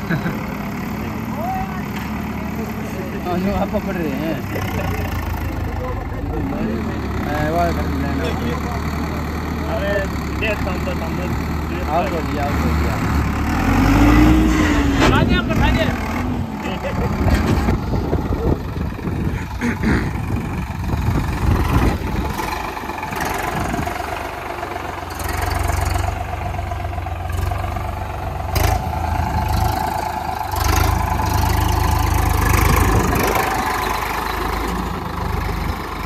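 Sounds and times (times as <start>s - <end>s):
tractor diesel engine rumbling: 0.0s - 36.0s.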